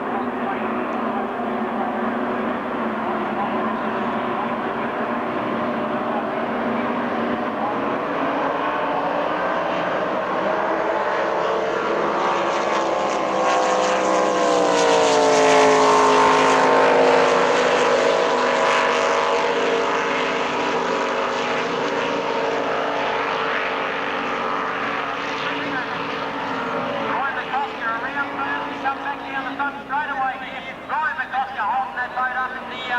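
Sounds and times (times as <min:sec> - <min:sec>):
powerboat engine passing by: 0:00.0 - 0:32.9.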